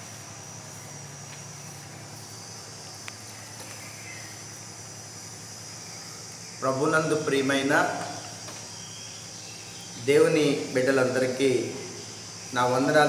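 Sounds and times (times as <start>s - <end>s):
steady high whine: 0.0s - 13.0s
steady low hum: 0.0s - 13.0s.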